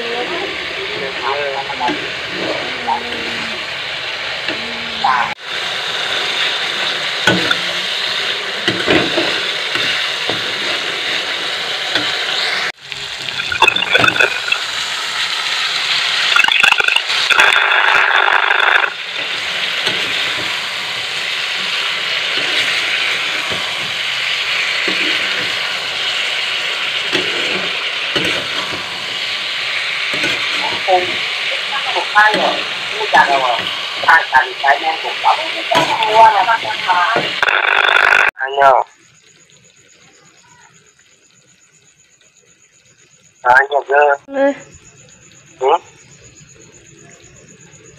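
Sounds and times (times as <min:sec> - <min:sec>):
vegetables sizzling in a wok: 0:00.0 - 0:38.3, 0:38.9 - 0:43.4, 0:44.2 - 0:47.9.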